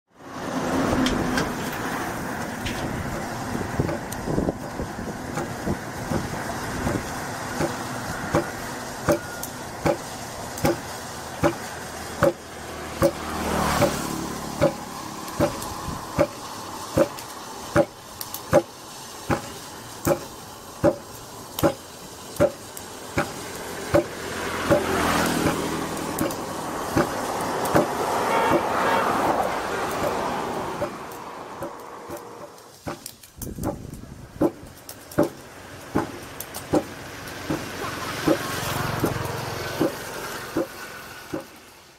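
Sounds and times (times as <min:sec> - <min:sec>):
highway traffic passing: 0:00.1 - 0:41.9.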